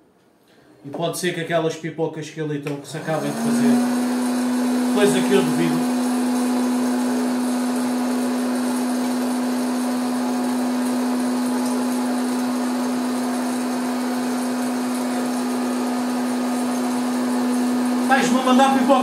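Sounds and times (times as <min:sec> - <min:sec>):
motor hum: 0:03.0 - 0:19.0
popcorn maker fan rushing air: 0:03.0 - 0:19.0.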